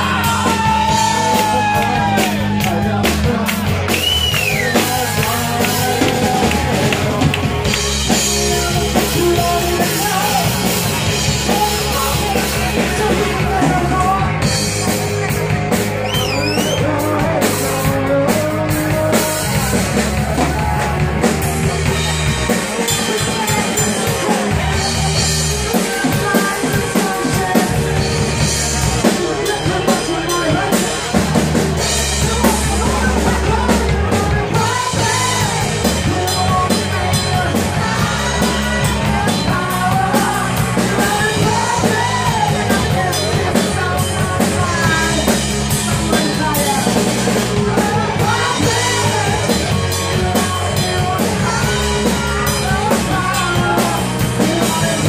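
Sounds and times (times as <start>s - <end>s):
drum kit beat: 0.0s - 55.0s
live rock band playing: 0.0s - 55.0s
person singing: 0.0s - 55.0s.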